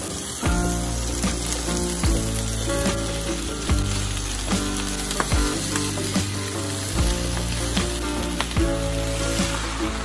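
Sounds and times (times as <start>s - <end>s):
background music with a beat: 0.0s - 10.0s
cabbage sizzling in a frying pan: 0.0s - 10.0s.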